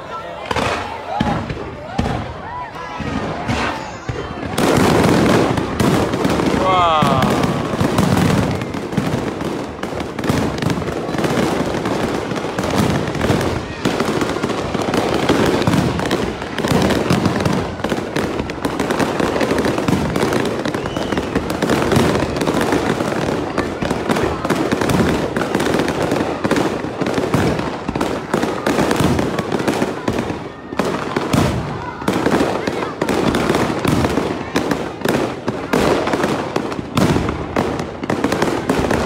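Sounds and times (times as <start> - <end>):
fireworks bangs: 0.0 - 39.0.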